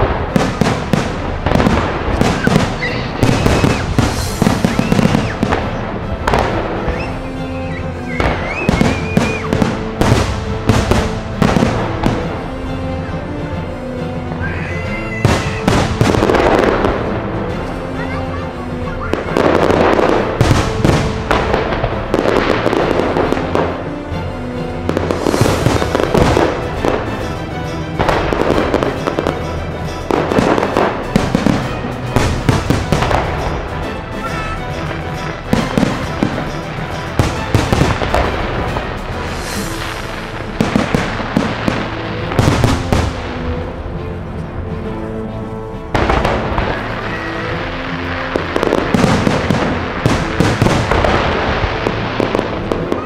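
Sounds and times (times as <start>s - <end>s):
fireworks bursting and crackling: 0.0s - 44.6s, 45.8s - 53.0s
music with long held notes: 0.0s - 53.0s.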